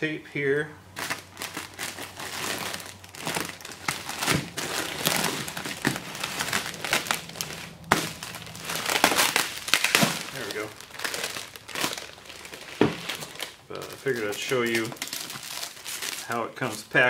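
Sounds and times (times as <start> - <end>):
plastic wrap crinkling: 0.9 - 17.0.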